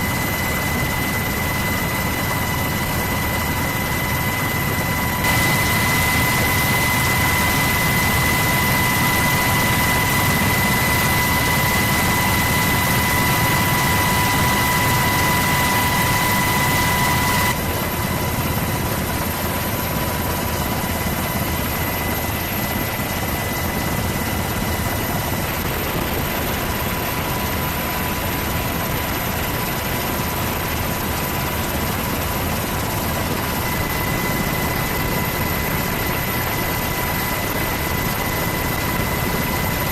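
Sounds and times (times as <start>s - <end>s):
aircraft engine drone with whine: 0.0s - 39.9s.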